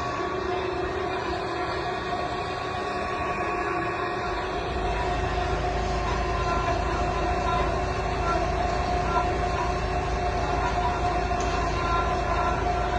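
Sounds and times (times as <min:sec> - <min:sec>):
bandsaw running with whine: 0:00.0 - 0:12.9.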